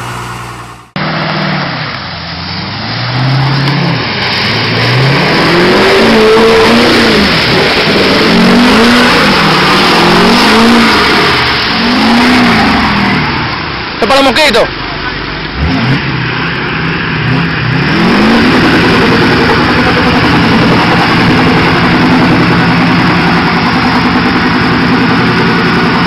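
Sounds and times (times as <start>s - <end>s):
continuous rushing noise: 0.0s - 26.0s
engine revving hard: 2.6s - 13.6s, 15.5s - 26.0s.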